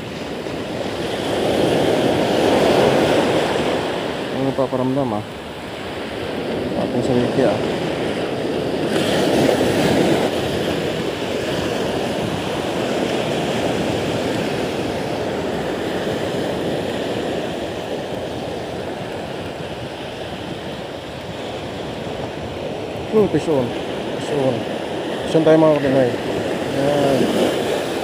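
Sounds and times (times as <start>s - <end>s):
sea surf breaking on beach: 0.0s - 28.0s.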